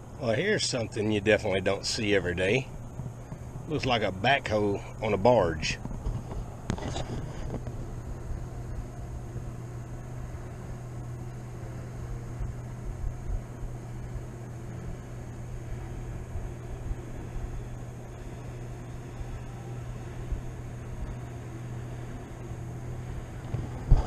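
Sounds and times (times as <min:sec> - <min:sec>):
boat motor humming: 0:00.0 - 0:24.0
faint high whine: 0:00.0 - 0:24.0.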